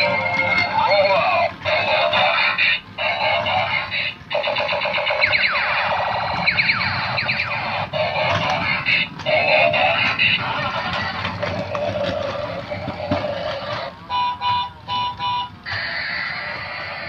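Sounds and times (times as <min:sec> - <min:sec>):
tinny toy electronic music: 0:00.0 - 0:17.0.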